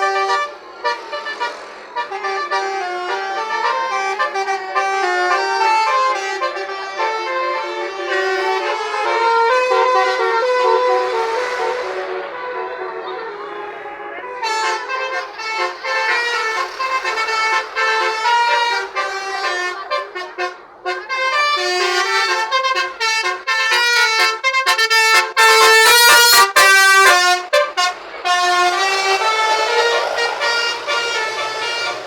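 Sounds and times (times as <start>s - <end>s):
bus musical horn tune: 0.0s - 32.0s.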